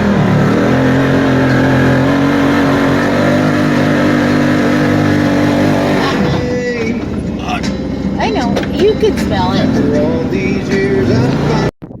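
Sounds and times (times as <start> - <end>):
off-road engine running loud: 0.0 - 11.7.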